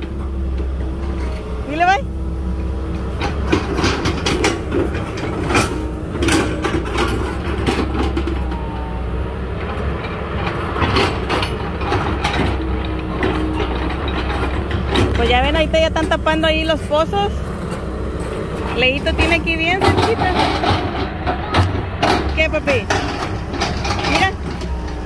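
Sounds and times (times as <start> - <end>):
excavator diesel engine running: 0.0 - 25.0
metallic clanks and knocks: 2.5 - 8.8, 9.5 - 25.0.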